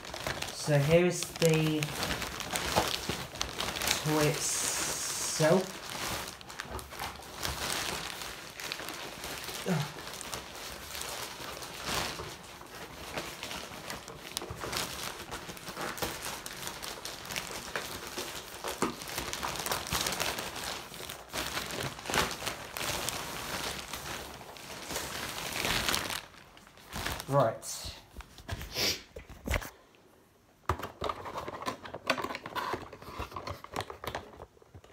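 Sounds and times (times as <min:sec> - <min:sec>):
packaging crinkling and rustling: 0:00.0 - 0:29.8, 0:30.6 - 0:34.9.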